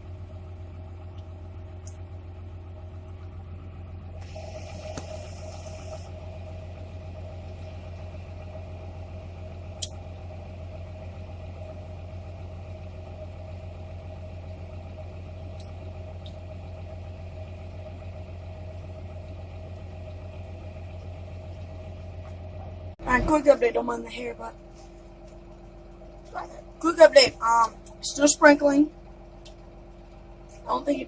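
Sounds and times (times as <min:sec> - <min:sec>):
tractor engine humming: 0:00.0 - 0:31.0.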